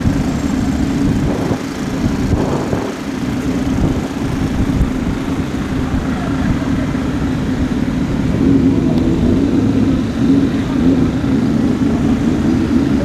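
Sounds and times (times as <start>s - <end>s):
motorcycle engine running loudly: 0.0s - 13.0s.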